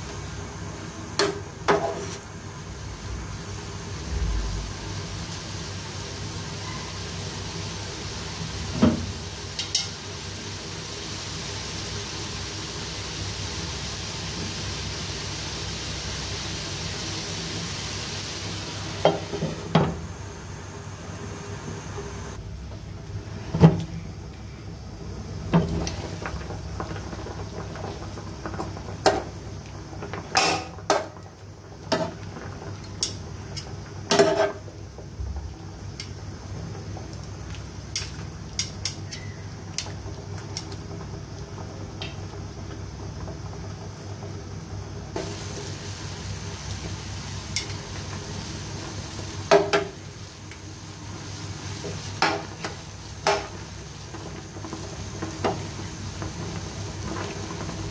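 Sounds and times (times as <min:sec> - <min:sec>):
water boiling in a pan: 0:00.0 - 0:57.9.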